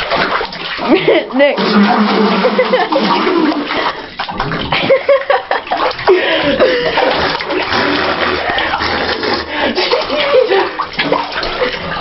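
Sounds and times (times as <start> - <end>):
water splashing in a bathtub: 0.0 - 12.0.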